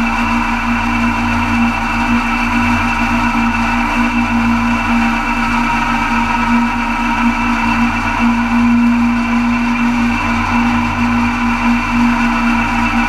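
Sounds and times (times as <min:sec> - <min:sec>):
tractor running under load: 0:00.0 - 0:13.0.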